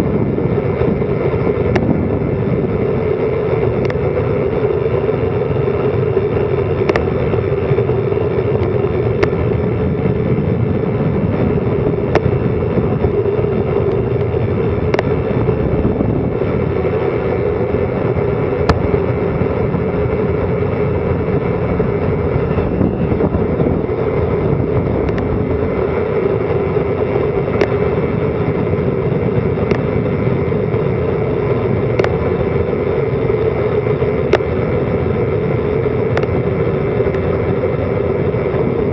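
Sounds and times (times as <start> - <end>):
hum: 0.0 - 38.9
wind noise on microphone: 0.0 - 38.9.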